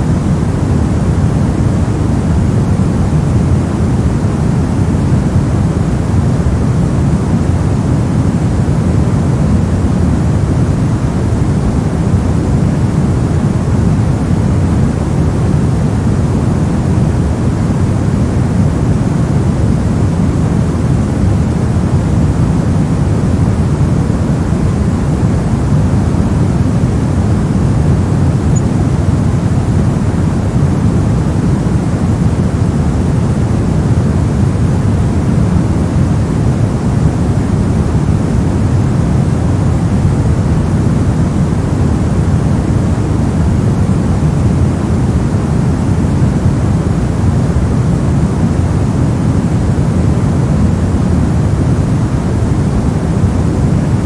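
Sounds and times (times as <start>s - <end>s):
deep white noise rush: 0.0s - 54.0s.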